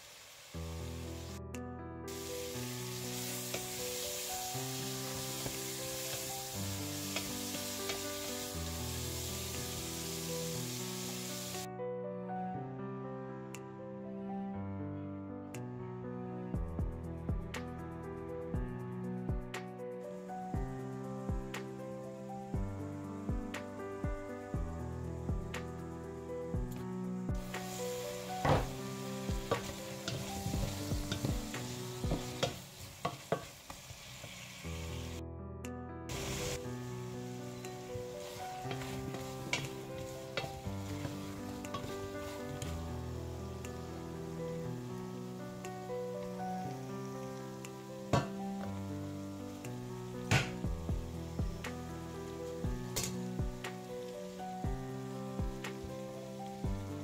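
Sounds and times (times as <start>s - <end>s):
shrimp sizzling in a pot: 0.0s - 1.4s, 2.1s - 11.7s, 20.0s - 35.2s, 36.1s - 57.0s.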